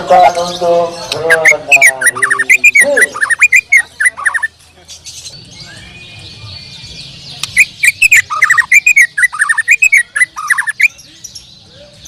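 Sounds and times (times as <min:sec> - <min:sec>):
bird singing chirps and whistles: 0:00.4 - 0:04.5, 0:05.3 - 0:11.6.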